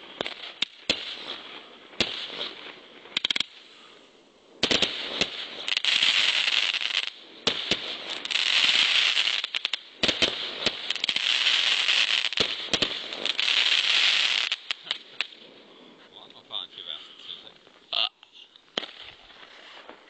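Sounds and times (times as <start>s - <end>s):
firework cracks and pops: 0.0s - 3.8s, 4.6s - 15.5s, 18.6s - 20.0s
dense firework crackling: 0.0s - 17.6s, 18.6s - 20.0s.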